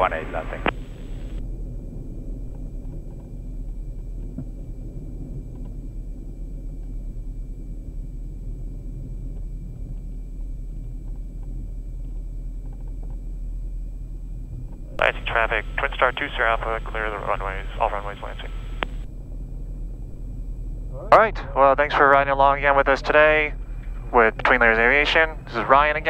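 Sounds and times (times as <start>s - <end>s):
aircraft engines idling: 0.0s - 26.0s.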